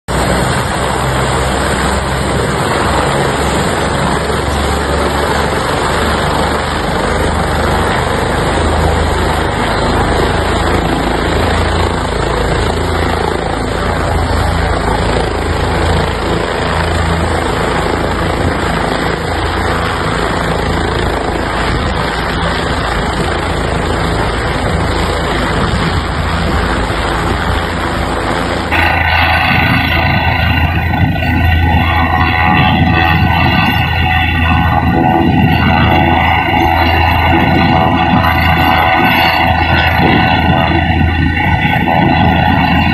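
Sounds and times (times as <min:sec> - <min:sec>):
helicopter rotor and engine: 0:00.1 - 0:42.9.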